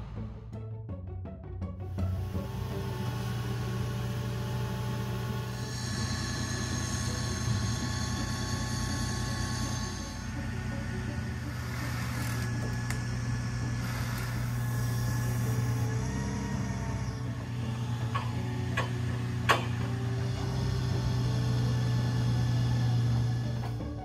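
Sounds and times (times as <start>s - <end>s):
drilling rig engine humming: 1.8s - 24.0s.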